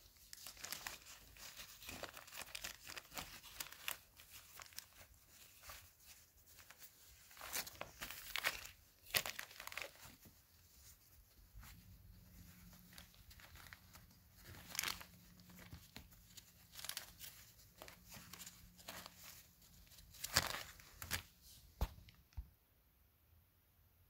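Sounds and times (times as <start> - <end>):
cloth bag rustling: 0.0 - 21.6
plastic wrapping crinkling: 0.0 - 22.2.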